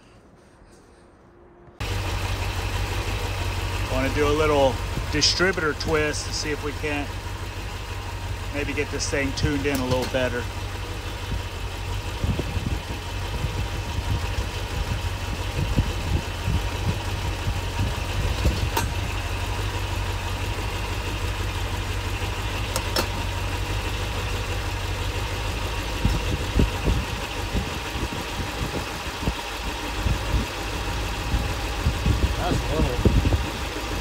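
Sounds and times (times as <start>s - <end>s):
car engine idling: 0.4s - 34.0s.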